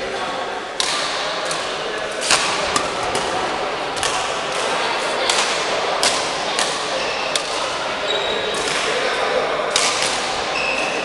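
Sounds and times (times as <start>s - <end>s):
chatter of voices: 0.0s - 11.0s
rackets hitting shuttlecock: 0.8s - 7.8s, 8.5s - 10.9s.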